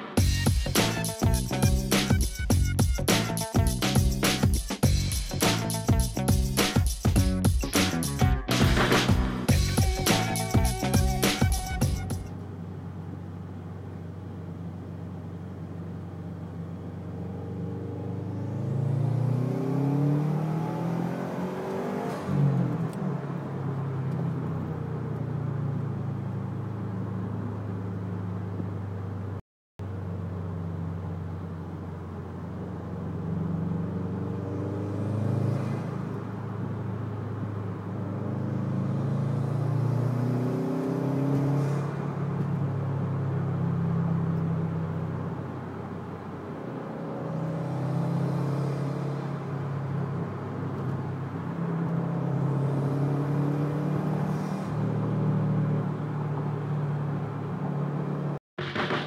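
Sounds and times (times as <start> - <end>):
car engine accelerating hard: 8.5 - 29.0, 29.8 - 59.0.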